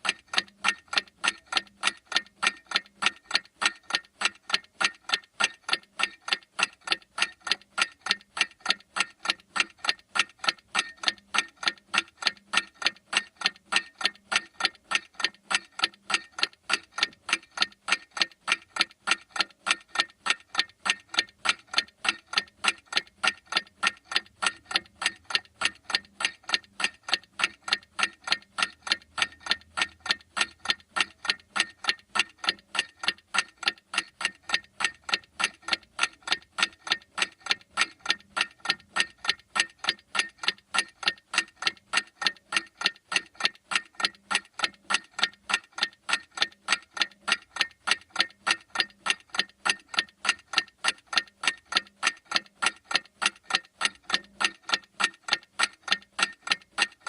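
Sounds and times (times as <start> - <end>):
clock ticking fast: 0.0 - 57.0.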